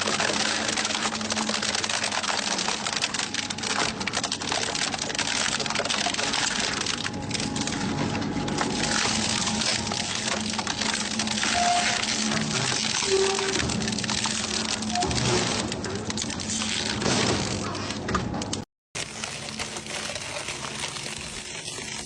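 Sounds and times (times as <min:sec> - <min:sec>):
shredder crunching metal: 0:03.4 - 0:22.0.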